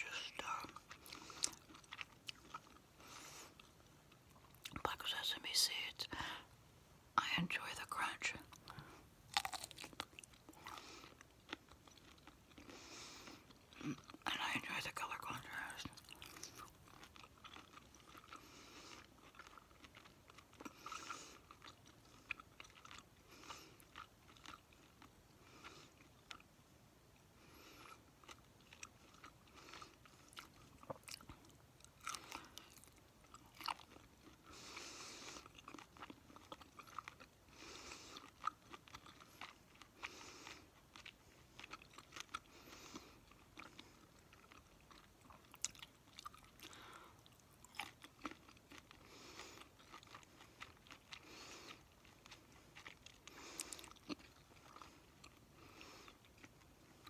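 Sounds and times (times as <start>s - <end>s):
person chewing food: 0.0s - 4.8s, 8.4s - 14.4s, 15.2s - 57.0s.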